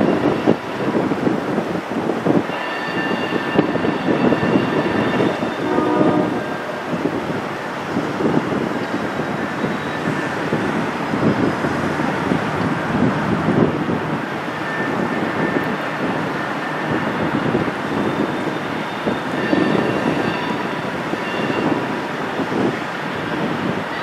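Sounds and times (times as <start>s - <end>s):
freight train rumbling on rails: 0.0s - 24.0s
wind on microphone: 0.0s - 24.0s.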